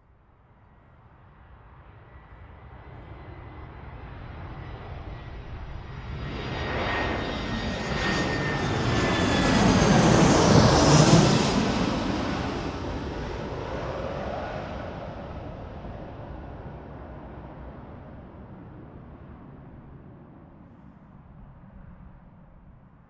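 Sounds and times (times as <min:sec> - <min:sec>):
jet aircraft engine with high whine: 0:01.0 - 0:22.8.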